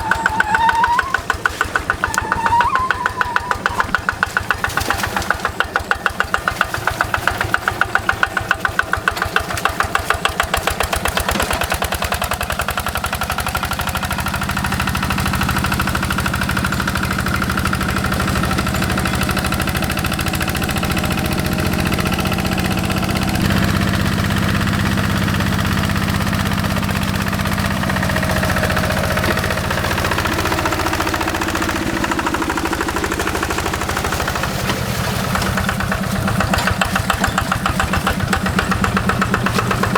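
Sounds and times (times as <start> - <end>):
diesel hand tractor running: 0.0 - 39.9.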